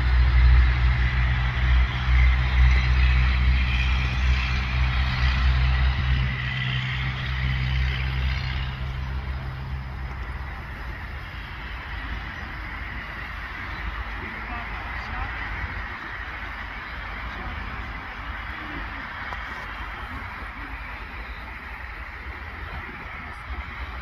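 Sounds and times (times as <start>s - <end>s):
road noise hiss: 0.0s - 24.0s
vehicle engine humming: 0.0s - 24.0s.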